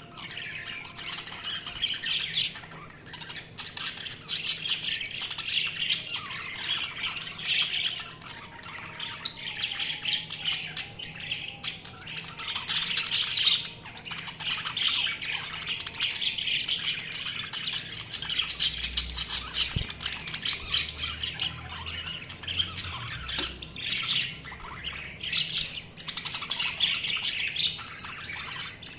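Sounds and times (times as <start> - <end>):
budgerigars chirping and squawking: 0.0 - 28.9.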